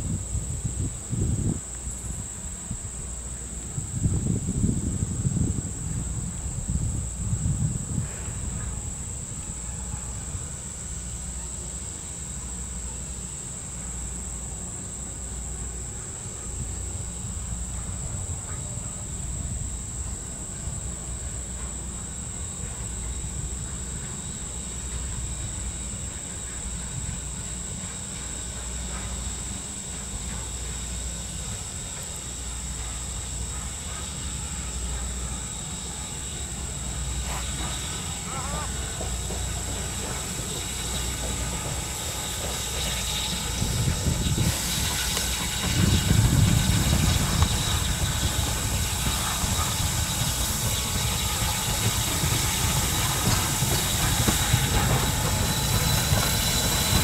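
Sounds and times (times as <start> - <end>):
high-pitched insect drone: 0.0 - 57.0
steam locomotive rumbling: 0.0 - 57.0.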